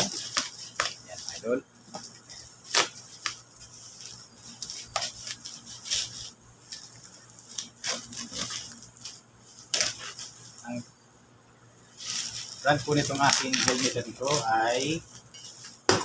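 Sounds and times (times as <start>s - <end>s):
plastic wrap crinkling and tearing: 0.0s - 10.8s, 12.0s - 15.9s.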